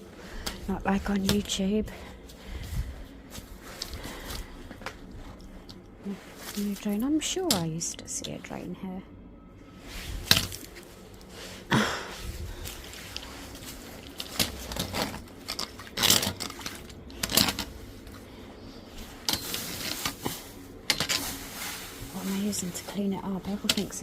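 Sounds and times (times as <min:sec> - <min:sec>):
scraping and rustling: 0:00.1 - 0:07.8, 0:09.8 - 0:24.0.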